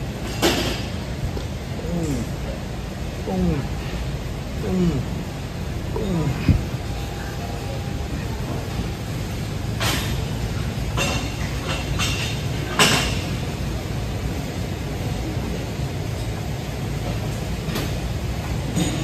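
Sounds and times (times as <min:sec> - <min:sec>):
gym background rumble: 0:00.0 - 0:19.0.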